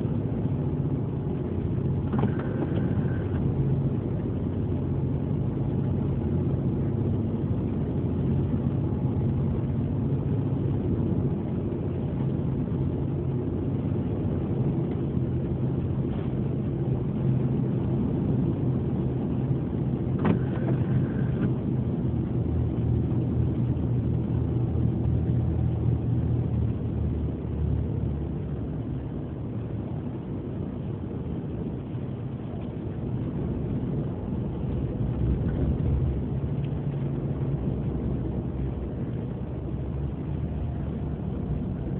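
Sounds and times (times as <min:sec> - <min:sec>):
ferry engines droning: 0:00.0 - 0:41.9
wind noise on microphone: 0:00.0 - 0:41.9.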